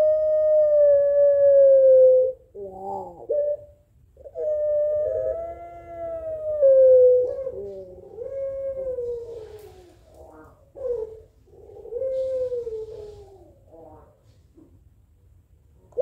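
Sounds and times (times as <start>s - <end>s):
doves cooing: 0.0s - 14.3s.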